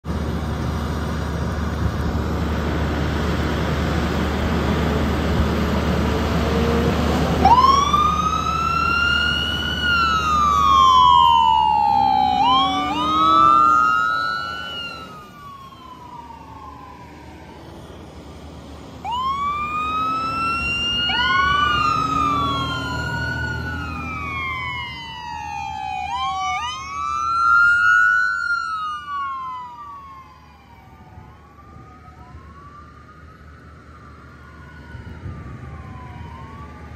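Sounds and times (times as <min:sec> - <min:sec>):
fire engine sirens wailing: 0:00.1 - 0:36.9.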